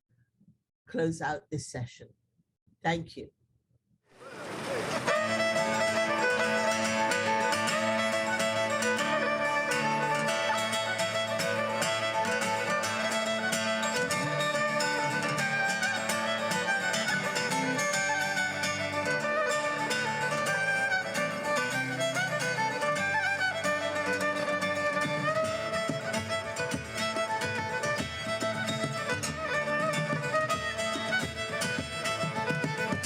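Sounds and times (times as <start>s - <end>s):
folk band playing: 4.4s - 33.0s.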